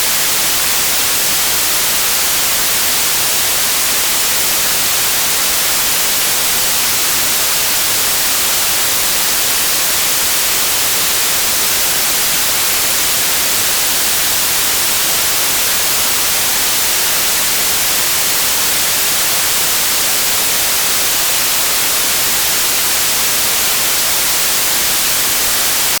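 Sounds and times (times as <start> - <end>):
white noise static hiss: 0.0 - 26.0.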